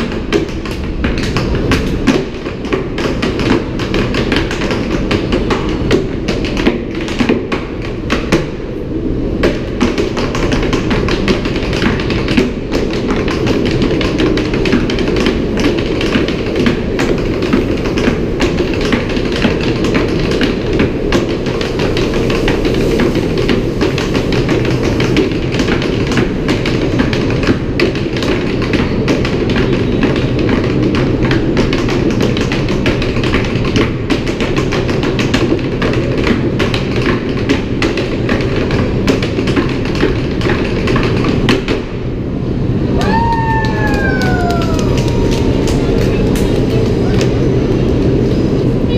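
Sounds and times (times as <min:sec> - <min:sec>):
tap shoes on wooden boards: 0:00.0 - 0:08.6, 0:09.4 - 0:41.9.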